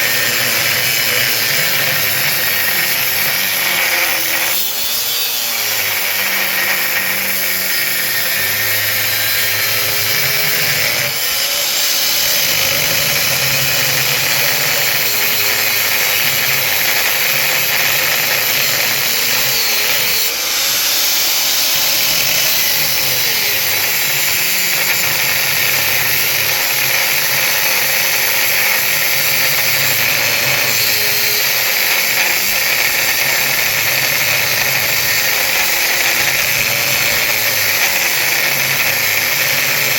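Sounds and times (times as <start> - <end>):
power tool cutting metal: 0.0 - 39.9.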